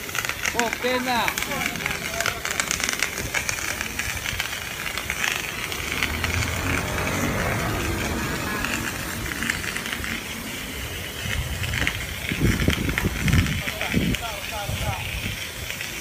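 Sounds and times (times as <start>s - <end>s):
fire hose spraying water: 0.0s - 16.0s.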